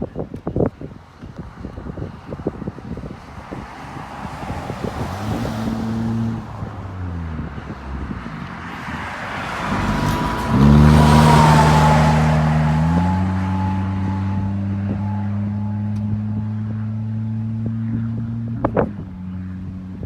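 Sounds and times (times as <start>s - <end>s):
wind noise: 0.0s - 20.0s
vehicle engine running: 1.9s - 20.0s.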